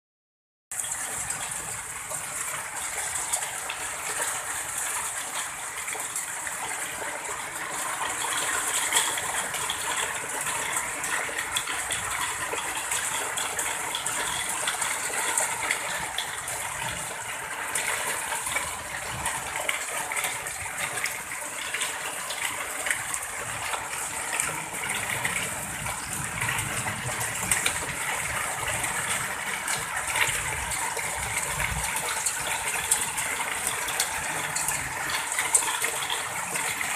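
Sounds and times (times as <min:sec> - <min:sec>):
rushing water gushing: 0:00.7 - 0:36.9.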